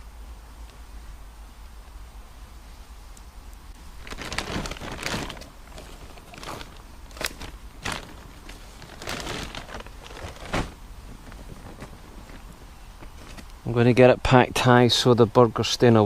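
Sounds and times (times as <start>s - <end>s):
crunching and rustling of coals: 0.6s - 14.1s.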